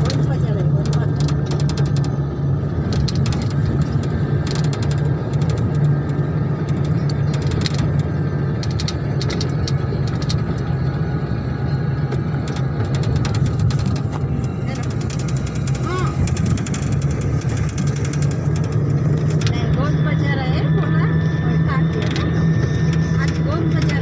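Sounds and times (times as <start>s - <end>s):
engine and road noise: 0.0s - 24.0s
vehicle body rattling: 0.0s - 24.0s.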